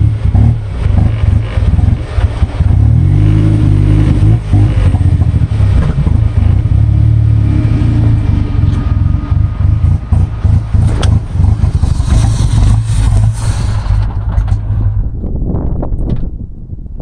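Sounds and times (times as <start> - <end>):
engine revving with misfire: 0.0 - 15.2.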